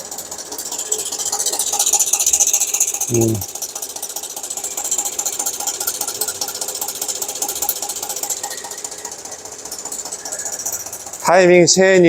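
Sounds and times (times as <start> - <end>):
engine running with ticking clatter: 0.0 - 12.0.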